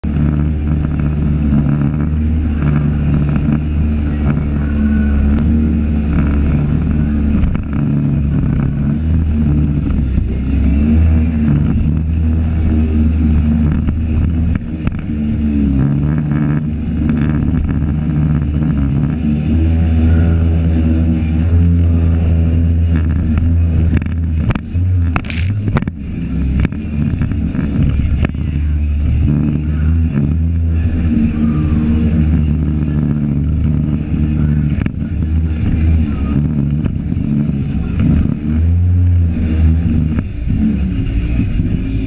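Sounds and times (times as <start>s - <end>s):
jet boat engine revving: 0.0s - 42.0s
water rushing along hull: 0.0s - 42.0s.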